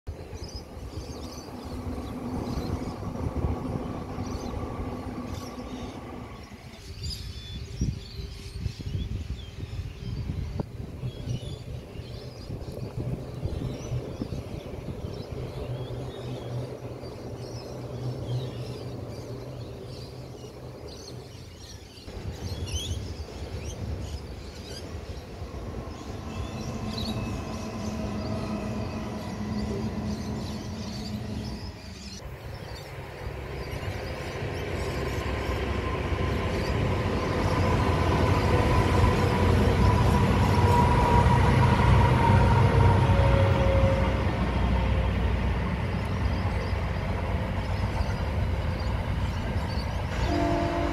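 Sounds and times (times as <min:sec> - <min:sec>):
train passing rumble and whine: 0:00.0 - 0:50.9.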